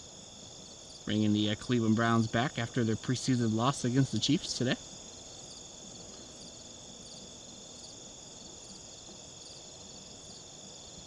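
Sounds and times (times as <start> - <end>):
crickets trilling: 0.0 - 11.0
insect chirps: 0.0 - 11.0.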